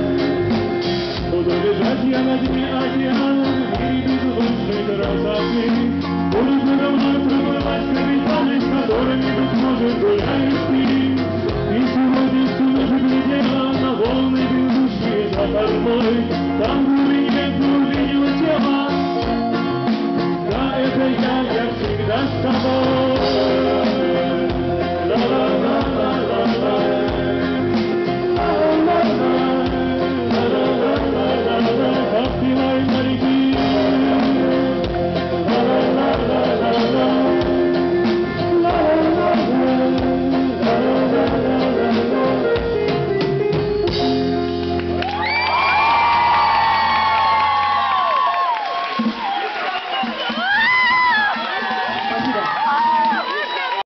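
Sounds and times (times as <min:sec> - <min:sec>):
band playing a song: 0:00.0 - 0:53.9.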